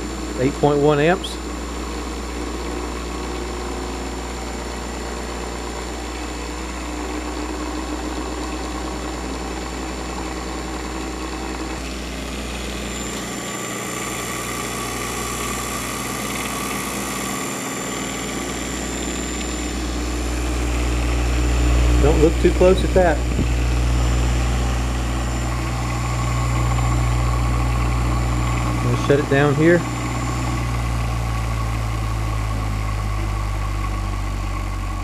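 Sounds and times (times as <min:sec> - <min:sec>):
electric motor humming: 0:00.0 - 0:35.0
faint high motor whine: 0:00.0 - 0:35.0.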